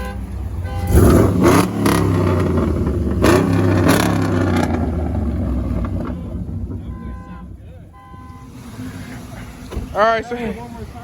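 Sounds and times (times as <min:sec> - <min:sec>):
car engine idling: 0:00.0 - 0:11.0
car engine revving: 0:00.5 - 0:09.7.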